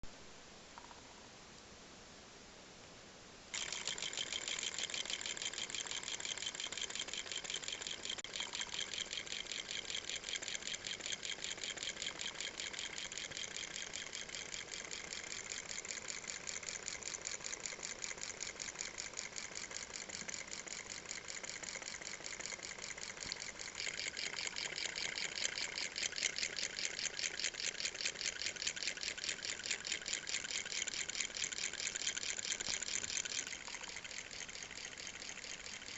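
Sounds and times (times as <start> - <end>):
solenoid engine clattering: 3.5 - 35.9.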